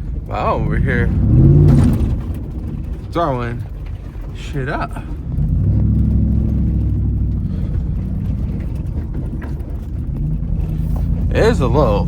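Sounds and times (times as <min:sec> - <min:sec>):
truck engine under load: 0:00.0 - 0:12.0.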